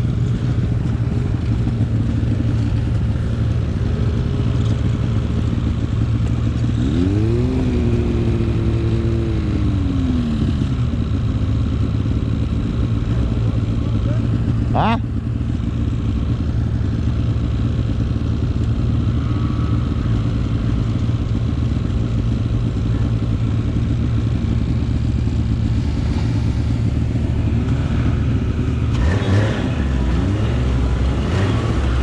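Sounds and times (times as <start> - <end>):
snowmobile engine running: 0.0 - 32.0.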